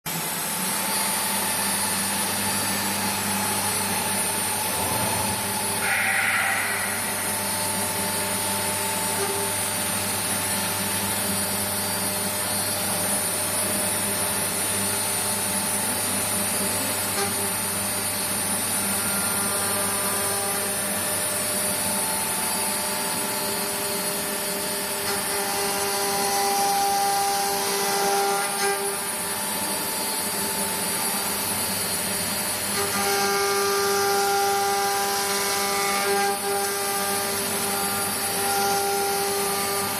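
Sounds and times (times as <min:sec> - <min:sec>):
cnc router spindle whine: 0:00.1 - 0:39.9.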